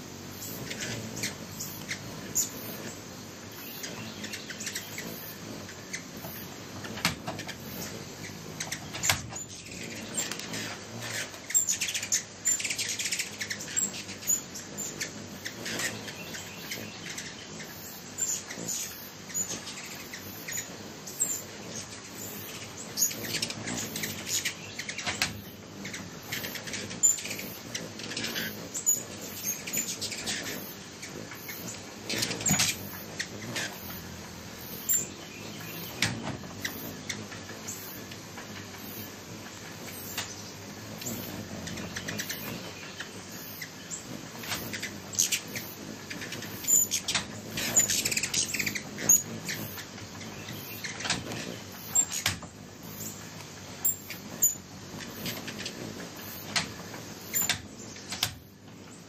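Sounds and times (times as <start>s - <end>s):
hummingbirds chipping and twittering: 0.0s - 59.0s.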